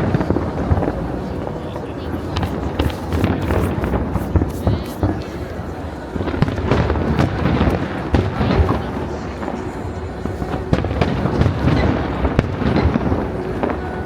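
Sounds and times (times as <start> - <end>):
fireworks bangs: 0.0 - 14.0
fireworks crackling: 0.0 - 14.0
music playing: 0.0 - 14.0.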